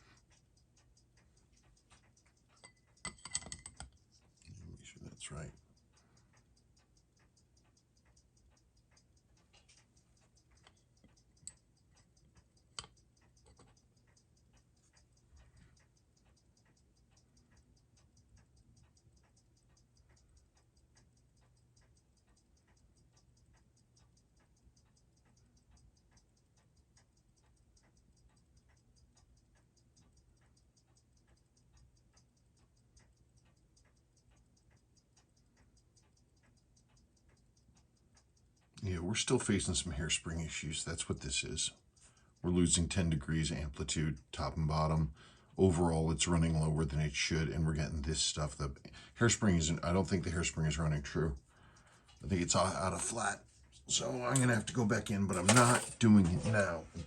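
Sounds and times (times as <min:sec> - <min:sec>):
watch ticking faintly: 0:00.0 - 0:57.0.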